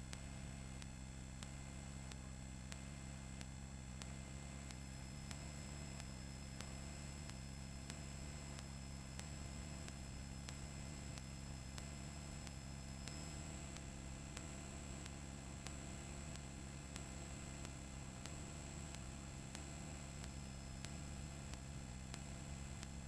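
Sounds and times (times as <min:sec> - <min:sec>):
faint regular ticks: 0:00.0 - 0:23.0.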